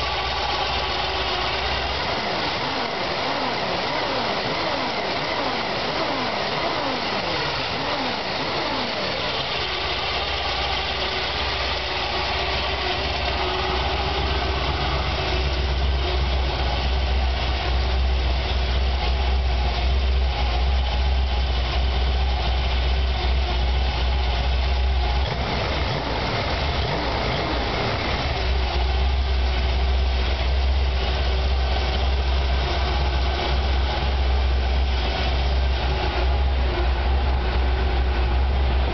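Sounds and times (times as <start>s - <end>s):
engine rough idle: 0.0s - 38.9s.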